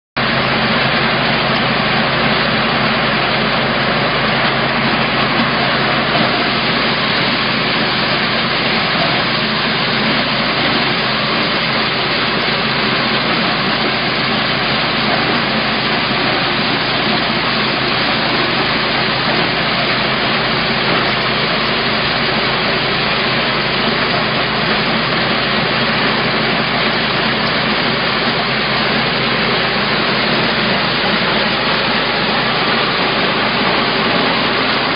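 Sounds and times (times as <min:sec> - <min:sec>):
small engine droning: 0:00.2 - 0:34.9
threshing machine rushing noise: 0:00.2 - 0:34.9.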